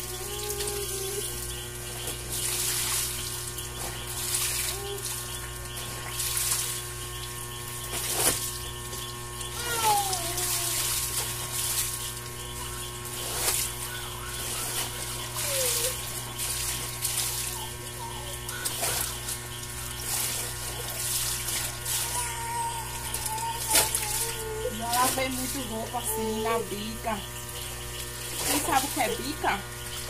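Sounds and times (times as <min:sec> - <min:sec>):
steady hum: 0:00.0 - 0:30.0
water splashing in tub: 0:00.0 - 0:30.0.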